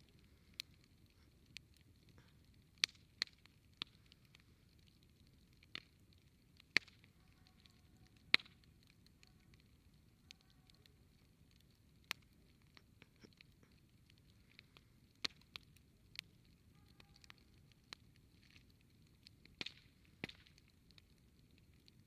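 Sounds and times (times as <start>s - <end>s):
campfire crackling and popping: 0.0s - 22.0s
faint hiss of burning fire: 0.0s - 22.0s.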